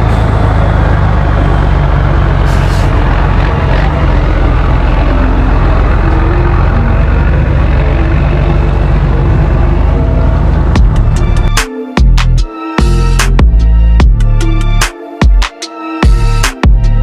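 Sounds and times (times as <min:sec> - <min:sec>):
diesel engine deep rumble: 0:00.0 - 0:15.0, 0:16.0 - 0:17.0.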